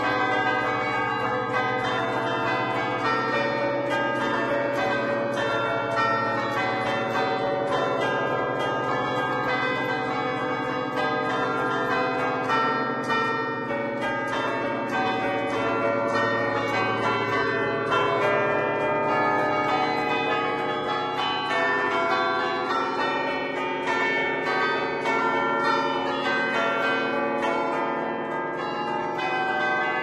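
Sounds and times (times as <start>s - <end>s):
church bells playing folk tune: 0.0s - 30.0s.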